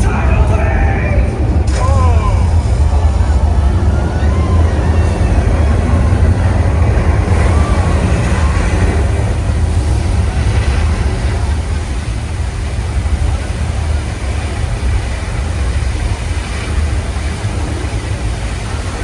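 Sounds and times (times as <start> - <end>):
deep steady rumble: 0.0 - 19.0
noisy hiss: 0.0 - 19.0.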